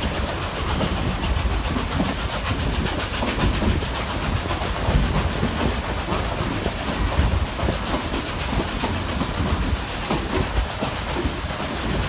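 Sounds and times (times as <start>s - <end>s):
continuous rushing noise: 0.0s - 12.0s
train wheels clacking: 0.0s - 12.0s.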